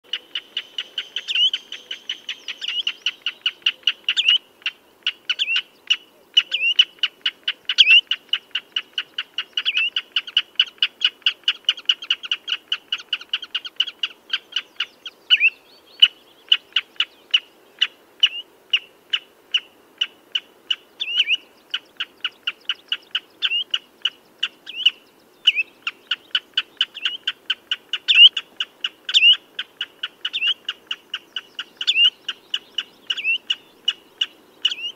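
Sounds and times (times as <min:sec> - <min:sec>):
bird piping calls: 0:00.1 - 0:34.9.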